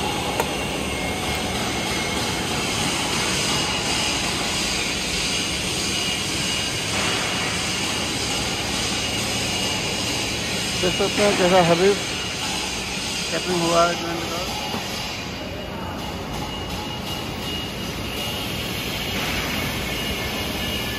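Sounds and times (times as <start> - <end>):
workshop hiss and hum: 0.0 - 20.9.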